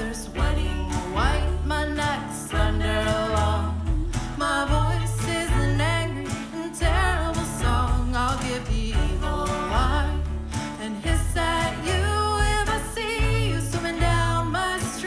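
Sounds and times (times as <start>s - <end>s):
acoustic guitar: 0.0s - 15.0s
woman singing: 0.0s - 15.0s.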